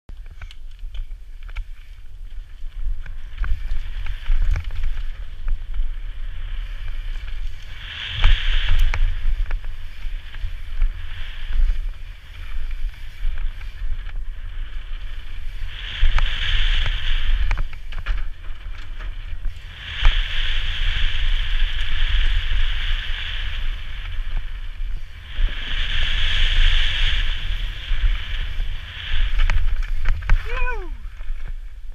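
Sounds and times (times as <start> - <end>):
bike tyres rumbling on rocks: 0.1 - 31.9
high buzzing whine: 0.1 - 31.9
wind on camera microphone: 0.1 - 31.9.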